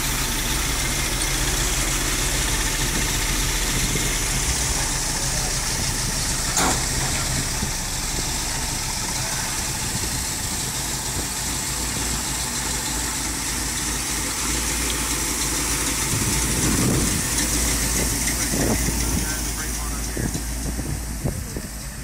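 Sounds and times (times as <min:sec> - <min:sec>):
pickup truck engine idling: 0:00.0 - 0:22.0.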